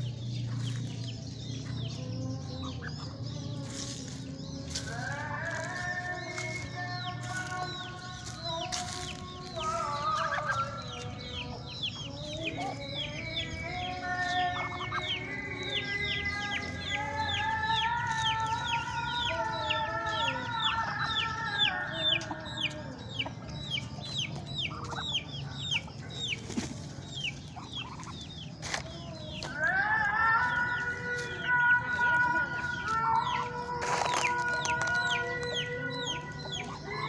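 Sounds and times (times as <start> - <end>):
chickens peeping: 0.0 - 37.0
chickens wavering calls: 0.0 - 37.0.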